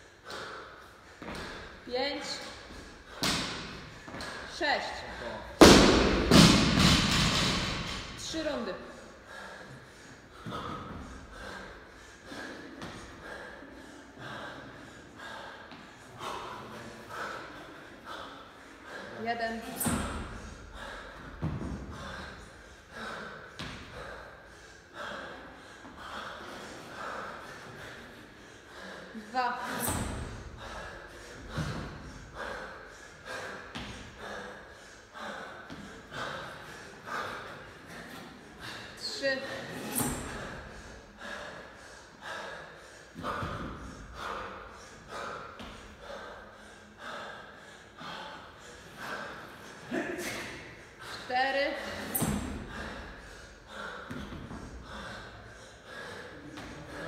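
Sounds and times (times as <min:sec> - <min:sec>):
man breathing hard: 0:00.0 - 0:57.0.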